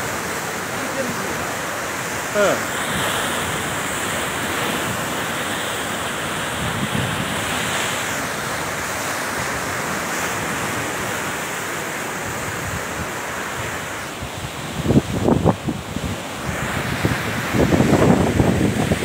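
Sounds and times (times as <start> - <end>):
sea surf breaking against rocks: 0.0 - 19.0
wind buffeting microphone: 0.0 - 19.0.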